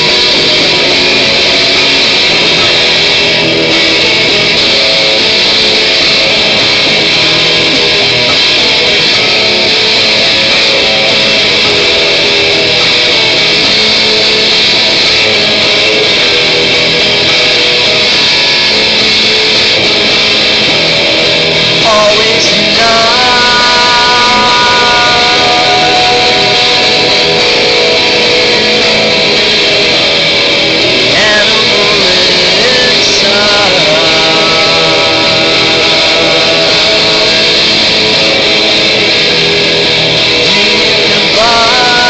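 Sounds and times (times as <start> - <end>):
music with sliding held notes: 0.0 - 42.0.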